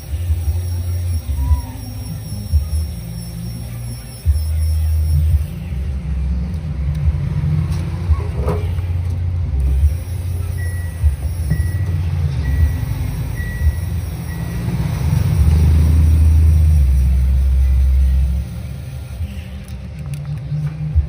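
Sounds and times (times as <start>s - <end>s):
music with heavy pulsing bass: 0.0s - 21.0s.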